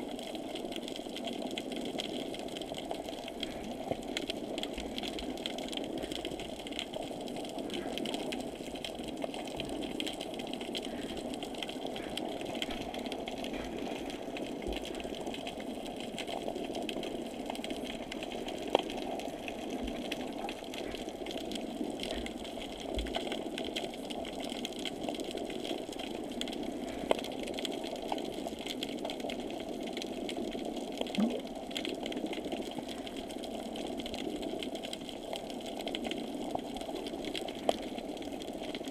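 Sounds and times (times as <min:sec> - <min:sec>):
muffled motors underwater: 0:00.0 - 0:38.9.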